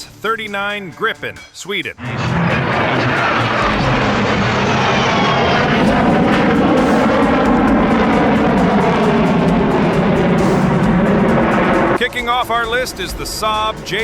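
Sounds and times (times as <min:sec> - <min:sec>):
jet engine running loudly: 0:02.0 - 0:14.0.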